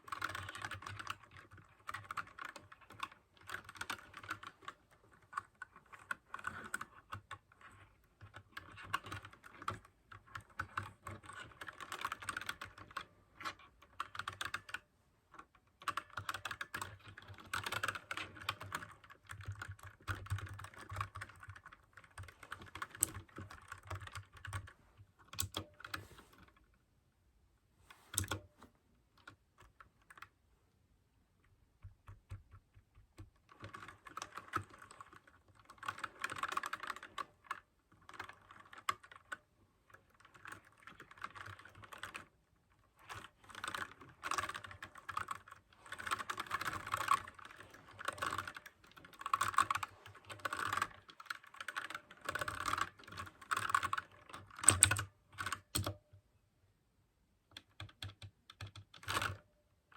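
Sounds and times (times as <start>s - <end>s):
mechanical keyboard typing: 0.0s - 26.1s, 28.1s - 28.5s, 31.8s - 42.4s, 43.0s - 56.2s, 57.5s - 59.5s.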